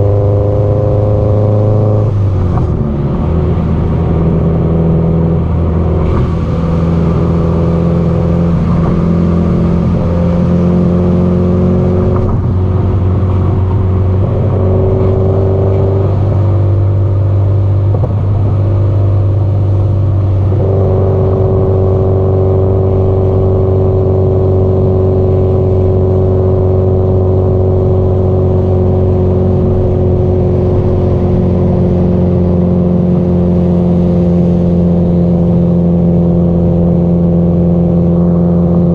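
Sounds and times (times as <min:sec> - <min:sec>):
car engine and exhaust droning: 0:00.0 - 0:38.9.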